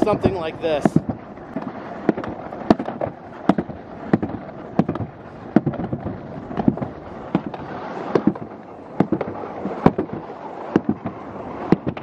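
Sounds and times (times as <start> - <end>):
sled rumbling down a track: 0.0 - 12.0.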